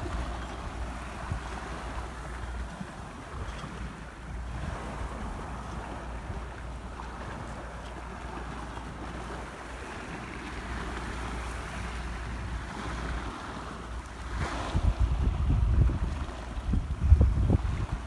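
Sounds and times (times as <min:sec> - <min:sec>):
choppy water: 0:00.0 - 0:18.0
wind buffeting microphone: 0:00.0 - 0:18.0.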